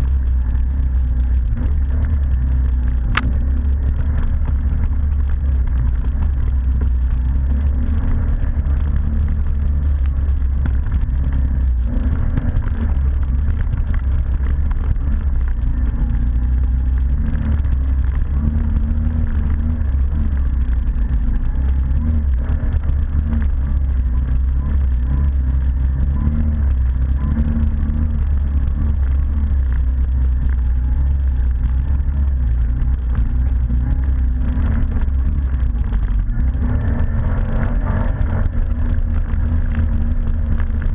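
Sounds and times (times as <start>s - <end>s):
atv engine rumbling: 0.0s - 40.9s.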